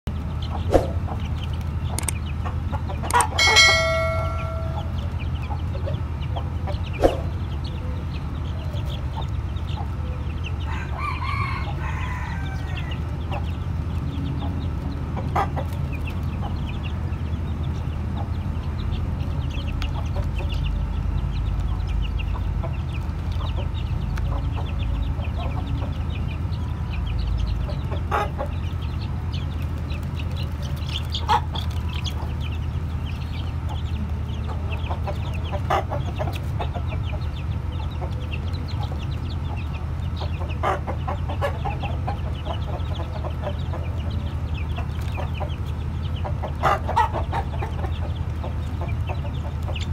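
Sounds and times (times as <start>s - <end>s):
chicks peeping: 0.1s - 49.9s.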